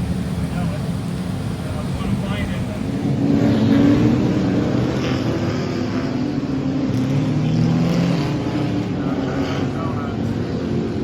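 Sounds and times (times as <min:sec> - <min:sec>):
engine pitch rising and falling: 0:00.0 - 0:11.0
vehicle engines running: 0:00.0 - 0:11.0.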